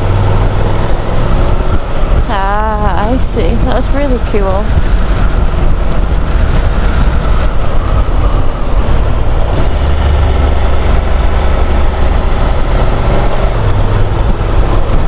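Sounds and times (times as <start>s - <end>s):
motorcycle engine rumble: 0.0s - 15.0s
wind rush over microphone: 0.0s - 15.0s.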